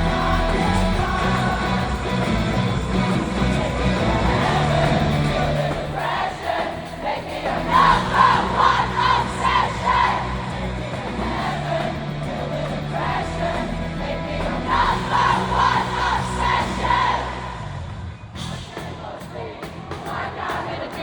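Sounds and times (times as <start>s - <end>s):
audience singing and shouting: 0.0s - 21.0s
crowd noise: 0.0s - 21.0s
live pop-rock band: 0.0s - 21.0s.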